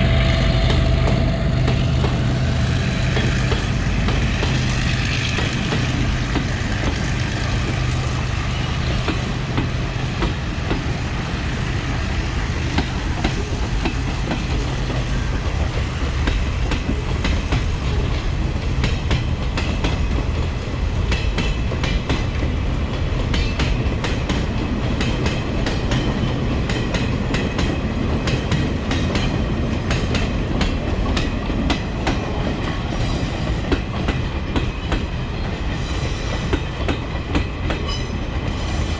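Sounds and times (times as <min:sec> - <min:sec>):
train wheels clacking: 0:00.6 - 0:38.9.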